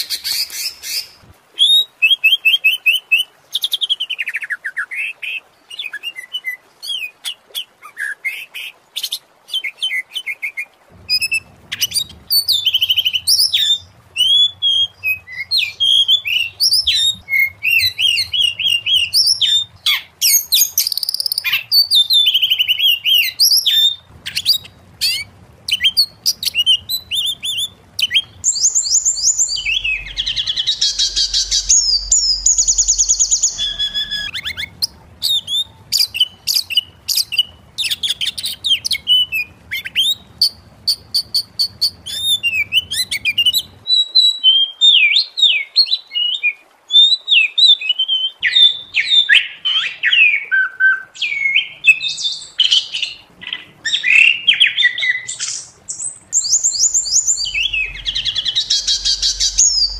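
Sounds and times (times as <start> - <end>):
bird singing whistles and trills: 9.0 - 59.9.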